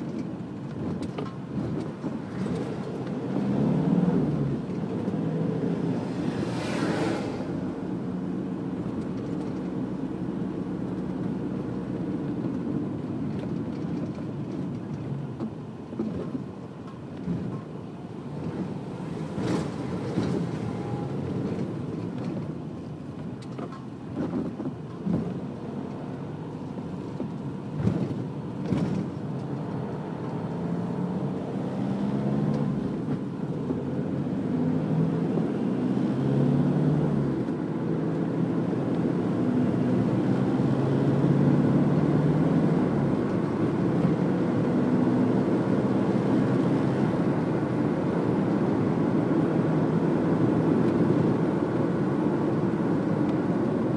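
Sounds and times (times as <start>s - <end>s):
car engine and road noise: 0.0s - 53.9s.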